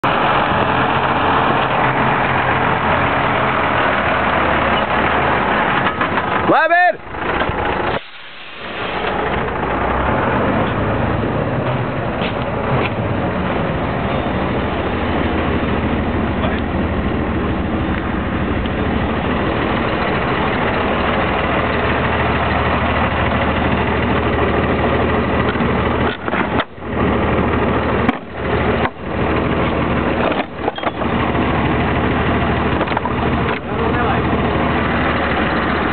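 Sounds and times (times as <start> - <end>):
truck diesel engine idling: 0.0 - 35.9.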